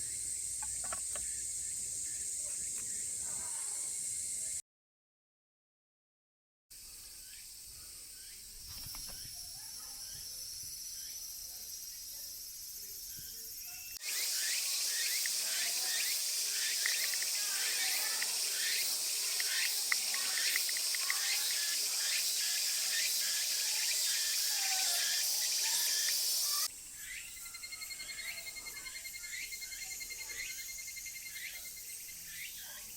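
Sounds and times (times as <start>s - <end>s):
pulsing insect trill: 0.0s - 4.6s, 7.0s - 32.9s
shrill cicada chorus: 0.0s - 4.6s, 6.8s - 32.9s.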